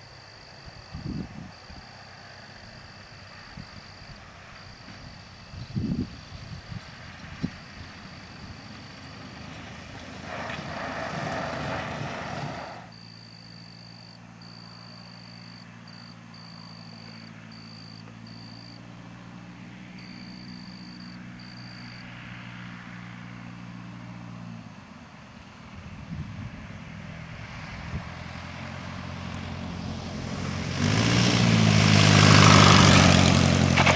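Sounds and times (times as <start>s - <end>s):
light airplane engine: 0.0s - 33.9s.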